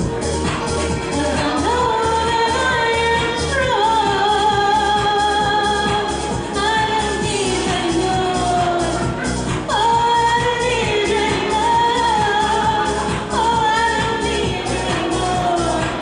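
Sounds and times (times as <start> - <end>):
pop backing track with beat: 0.0 - 16.0
woman singing into a microphone: 1.0 - 16.0.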